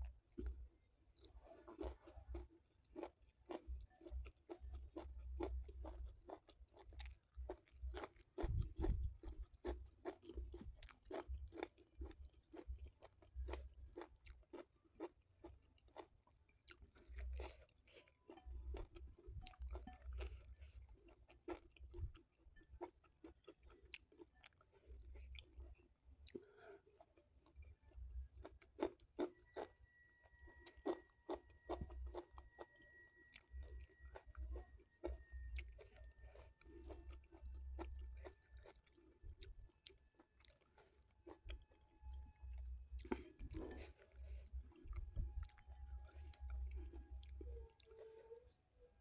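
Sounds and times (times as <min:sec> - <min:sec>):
close-up chewing: 0:00.0 - 0:49.0.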